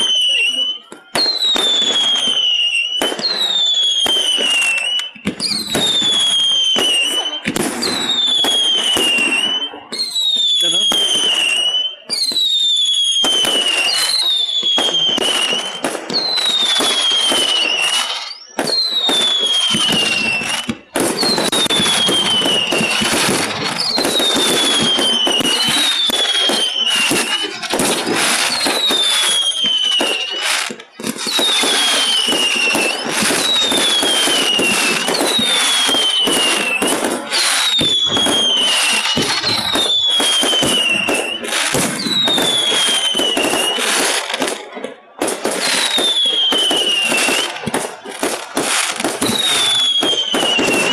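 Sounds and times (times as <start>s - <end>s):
fireworks bangs and crackles: 0.0s - 50.9s
whistling fireworks: 0.0s - 50.9s.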